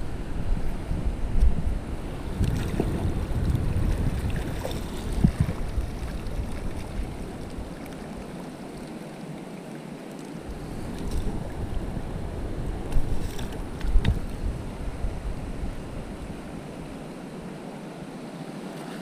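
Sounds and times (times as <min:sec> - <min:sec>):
wind buffeting microphone: 0:00.0 - 0:08.6, 0:10.4 - 0:17.2
shallow surf washing: 0:00.0 - 0:19.0.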